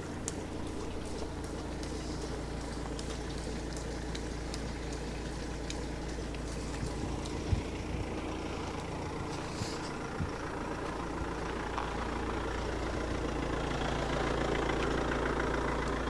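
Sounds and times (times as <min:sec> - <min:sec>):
van engine idling: 0:00.0 - 0:16.0.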